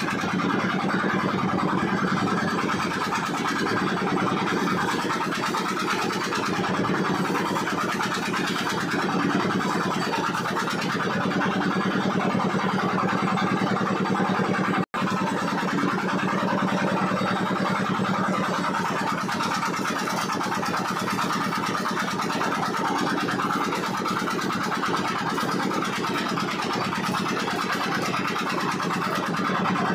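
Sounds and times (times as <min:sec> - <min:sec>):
engine idling: 0:00.0 - 0:29.9.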